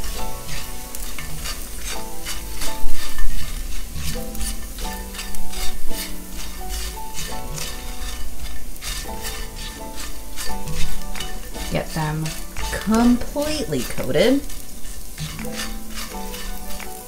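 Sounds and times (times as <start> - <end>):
spatula scraping and knocking pan: 0.0 - 17.0
tofu sizzling in oil: 0.0 - 17.0.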